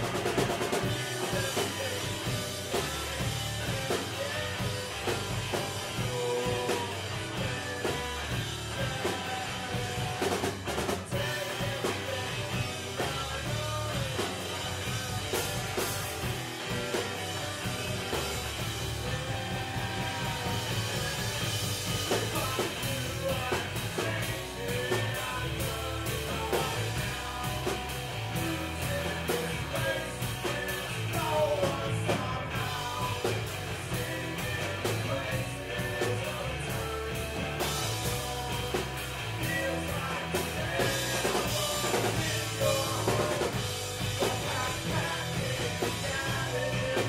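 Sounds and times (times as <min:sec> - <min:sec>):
drum kit: 0:00.0 - 0:47.0
electric guitars: 0:00.0 - 0:47.0
person singing: 0:00.8 - 0:10.4, 0:11.1 - 0:14.8, 0:19.0 - 0:47.0.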